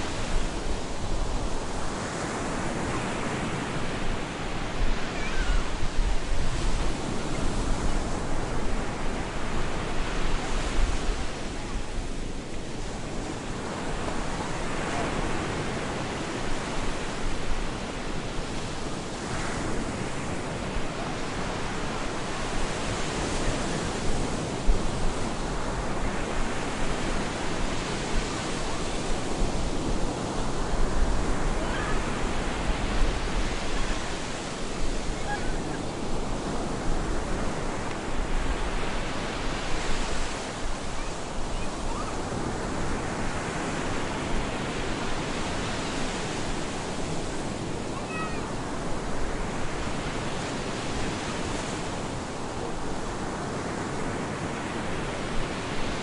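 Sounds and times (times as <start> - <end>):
surf breaking on beach: 0.0 - 56.0
wind rumble on microphone: 0.0 - 56.0.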